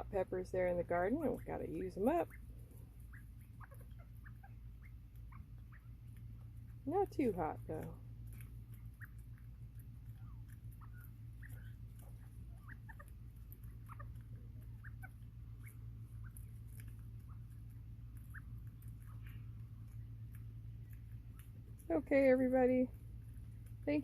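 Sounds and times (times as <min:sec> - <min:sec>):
low hum: 0:00.0 - 0:24.0
quail chirping: 0:00.0 - 0:24.0.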